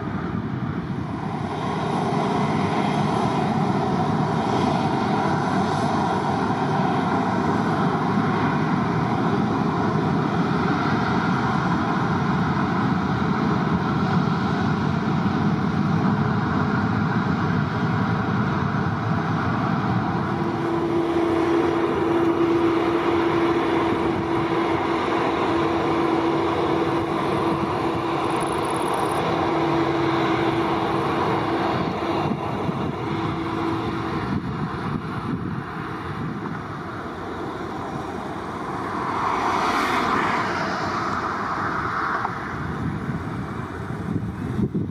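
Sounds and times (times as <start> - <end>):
steady hum: 0.0 - 39.5
airliner engines rumbling: 0.0 - 44.9.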